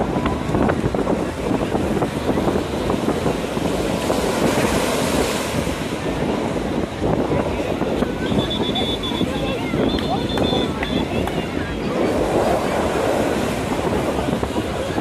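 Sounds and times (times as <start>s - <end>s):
surf breaking on sandy beach: 0.0s - 15.0s
wind buffeting microphone: 0.0s - 15.0s.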